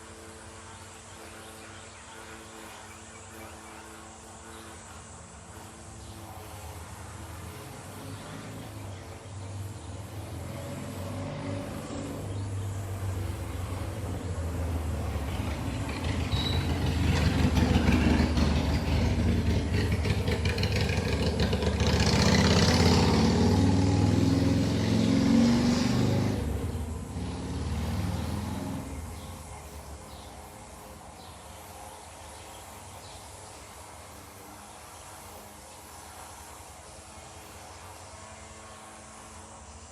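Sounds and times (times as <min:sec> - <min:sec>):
motorcycle engine passing: 0:00.1 - 0:39.9.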